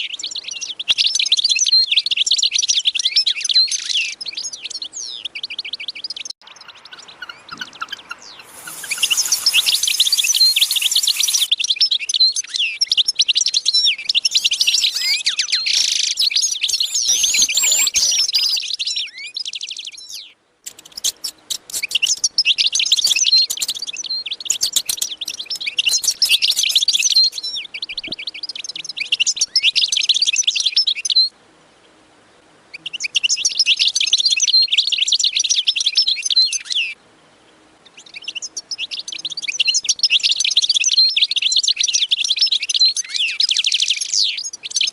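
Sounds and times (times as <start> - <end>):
small birds chirping: 0.0 - 31.4, 37.8 - 44.9.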